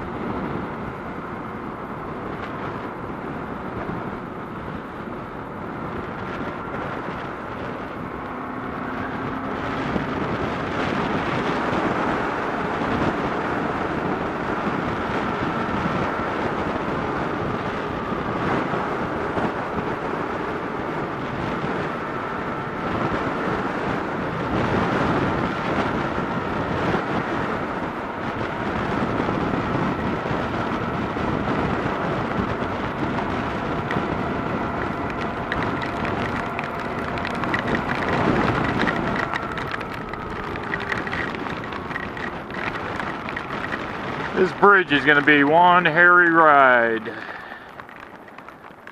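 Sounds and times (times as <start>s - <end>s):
motorcycle engine: 0.0s - 48.9s
road noise: 0.0s - 48.9s
wind rushing over microphone: 0.0s - 48.9s.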